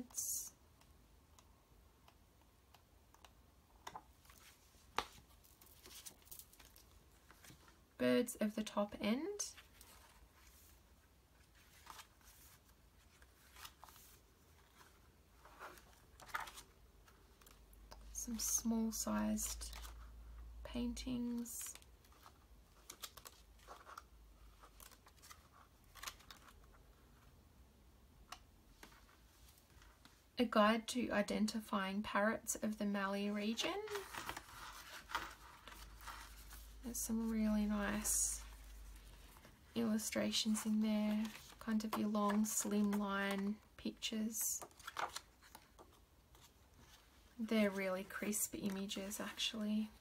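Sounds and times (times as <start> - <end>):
soft paper rustling: 3.1 - 8.0, 8.6 - 27.4, 28.3 - 30.3, 33.2 - 50.0.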